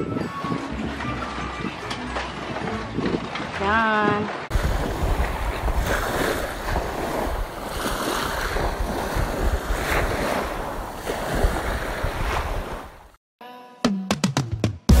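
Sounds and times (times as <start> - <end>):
wind buffeting microphone: 0.0 - 13.1
small waves breaking on shore: 0.5 - 13.2.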